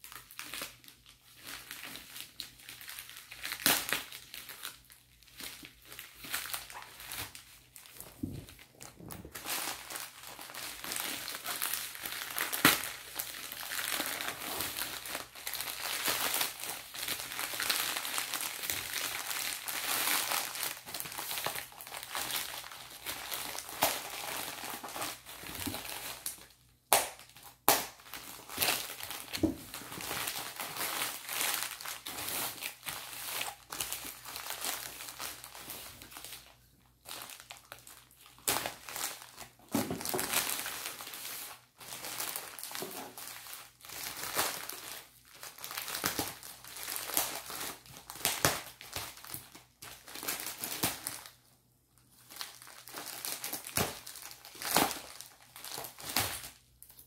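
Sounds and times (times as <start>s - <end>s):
plastic bag crinkling and tearing: 0.0s - 57.0s
sharp plastic crackles: 0.1s - 36.4s, 37.0s - 51.4s, 52.3s - 57.0s.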